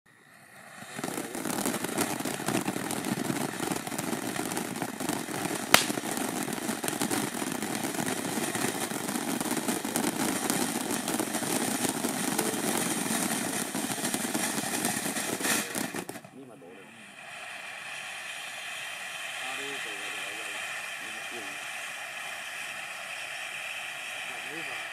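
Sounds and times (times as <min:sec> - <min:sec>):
firework crackling: 0:00.1 - 0:24.9
fountain firework hissing: 0:00.1 - 0:24.9
firework sharp crack: 0:00.4 - 0:24.9.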